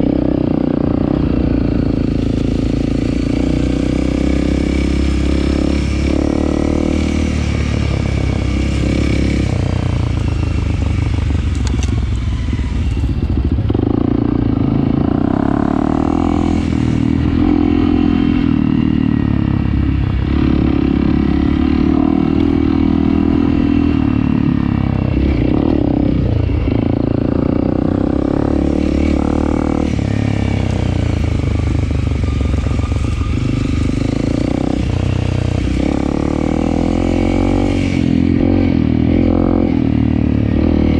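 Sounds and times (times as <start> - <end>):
dirt bike engine revving: 0.0 - 10.2, 12.8 - 40.9.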